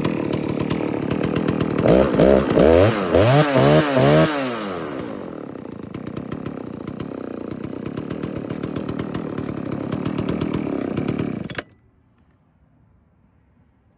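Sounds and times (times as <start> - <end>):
chainsaw idling: 0.0 - 11.7
chainsaw engine stopping: 0.0 - 11.8.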